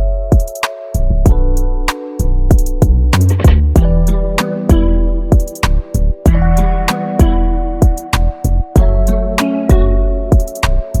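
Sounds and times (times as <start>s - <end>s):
drum machine and bass music: 0.0s - 11.0s
held guitar or keyboard chords: 0.0s - 11.0s.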